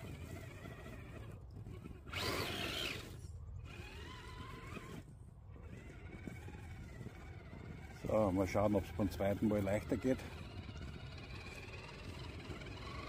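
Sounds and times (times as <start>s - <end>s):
rc car electric motor whining: 0.0s - 13.0s.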